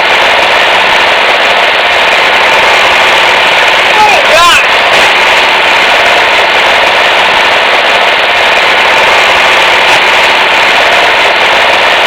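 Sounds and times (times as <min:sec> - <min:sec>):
band sawmill engine running: 0:00.0 - 0:12.0.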